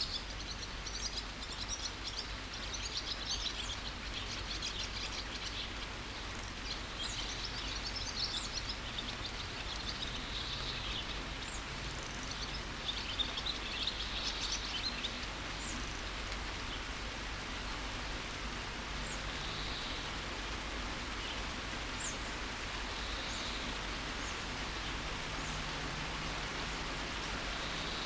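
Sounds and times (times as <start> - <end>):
small birds chirping: 0.0 - 28.0
steady rain hissing: 0.0 - 28.0.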